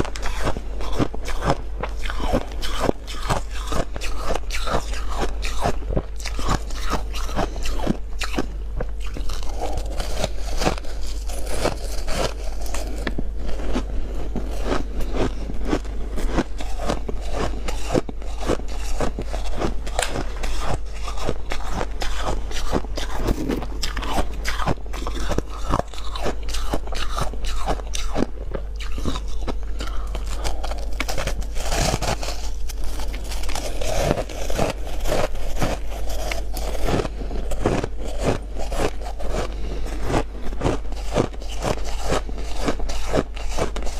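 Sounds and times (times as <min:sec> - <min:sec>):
person chewing crunchy ice: 0:00.0 - 0:43.9.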